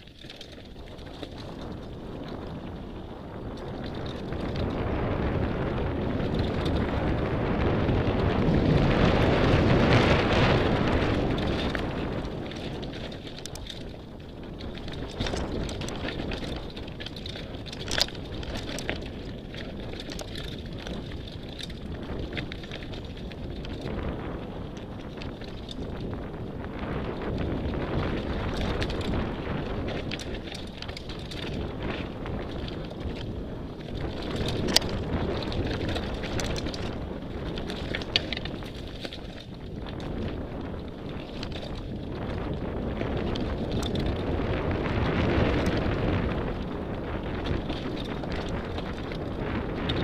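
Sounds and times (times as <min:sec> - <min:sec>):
bike rattling over bumps: 0:00.0 - 0:50.0
tyres rumbling on dirt: 0:00.0 - 0:50.0
wind buffeting microphone: 0:00.0 - 0:50.0.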